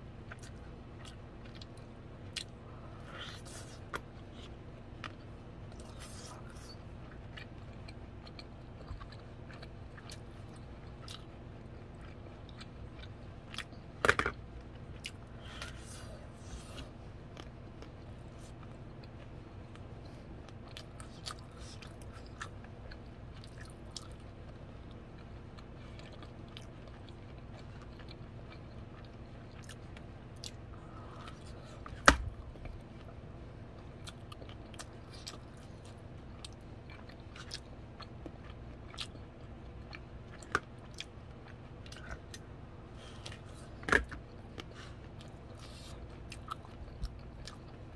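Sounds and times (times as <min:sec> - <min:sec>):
steady low hum: 0:00.0 - 0:47.9
person chewing corn on the cob: 0:00.2 - 0:47.9.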